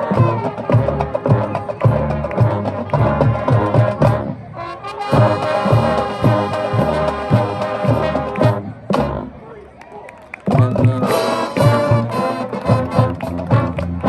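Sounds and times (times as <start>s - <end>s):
marching band playing: 0.0s - 14.0s.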